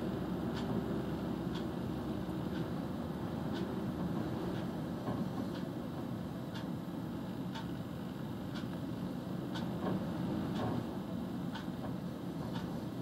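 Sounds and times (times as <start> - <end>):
light ticking: 0.2 - 6.8, 7.4 - 9.9, 11.5 - 13.0.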